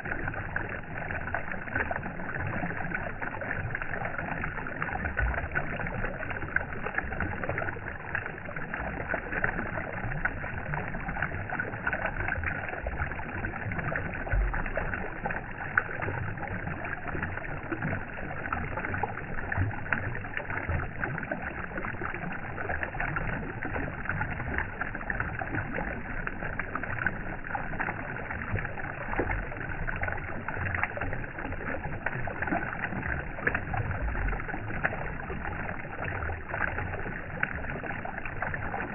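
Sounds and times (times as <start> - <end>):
running water rushing: 0.0 - 38.9
water splashing: 0.0 - 38.9.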